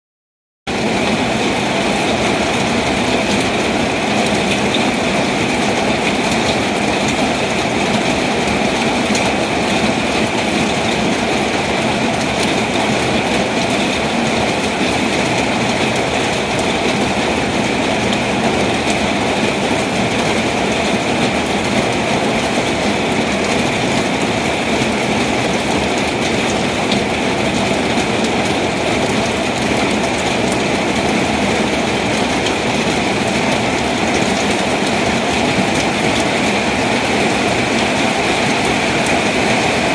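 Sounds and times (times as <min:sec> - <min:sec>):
heavy rain pouring: 0:00.7 - 0:39.9.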